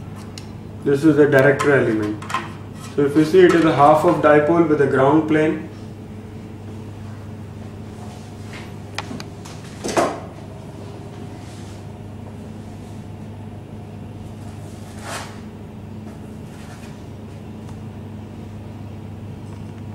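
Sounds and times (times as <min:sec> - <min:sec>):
electrical mains hum: 0:00.0 - 0:19.9.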